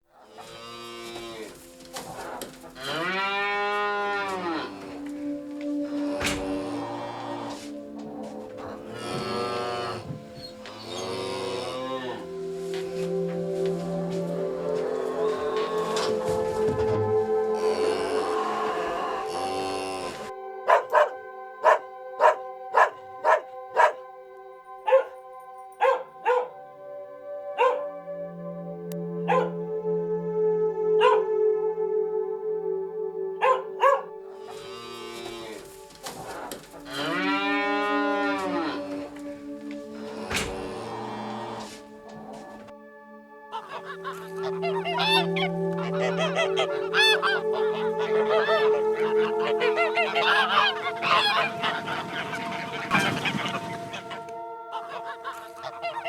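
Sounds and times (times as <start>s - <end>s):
background music with held tones: 0.0s - 56.0s
animal barking calls: 0.1s - 24.1s, 24.8s - 26.6s, 27.5s - 28.0s, 29.0s - 29.6s, 31.0s - 31.4s, 33.4s - 42.7s, 43.5s - 56.0s
cow mooing: 0.2s - 24.0s, 33.4s - 42.7s, 43.5s - 56.0s.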